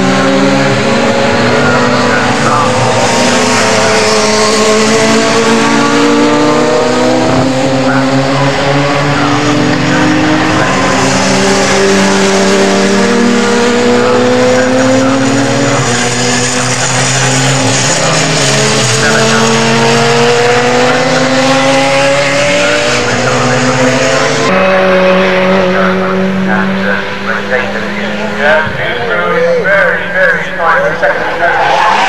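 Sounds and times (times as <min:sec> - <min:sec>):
race car engines accelerating: 0:00.0 - 0:32.0.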